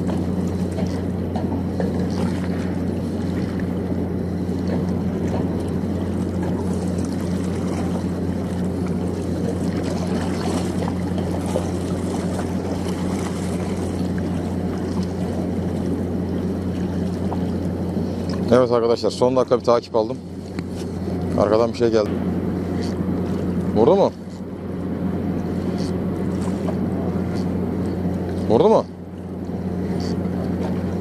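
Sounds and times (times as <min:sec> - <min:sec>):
low mechanical hum: 0:00.0 - 0:31.0
water noise: 0:00.0 - 0:31.0
wind: 0:00.0 - 0:31.0.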